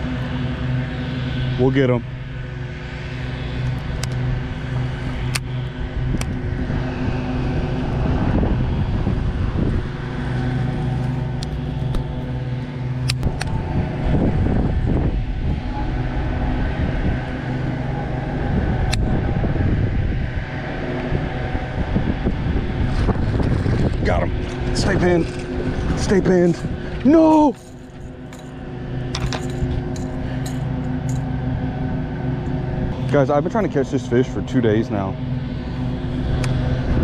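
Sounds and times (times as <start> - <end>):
motor drone: 0.0 - 37.0.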